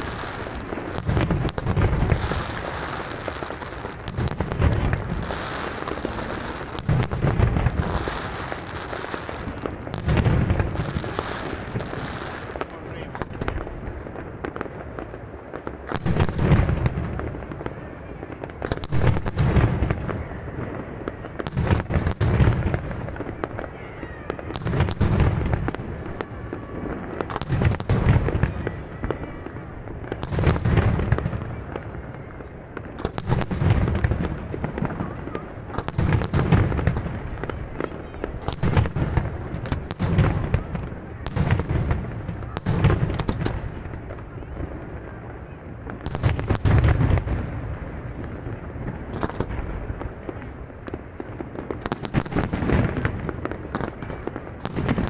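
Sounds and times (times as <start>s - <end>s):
firework shells booming: 0.0s - 55.0s
fireworks crackling: 0.0s - 55.0s.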